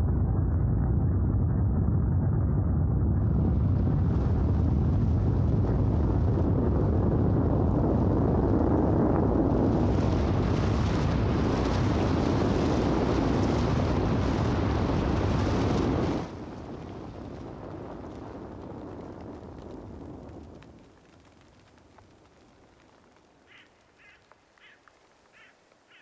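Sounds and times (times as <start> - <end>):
avalanche rumbling: 0.0 - 25.1.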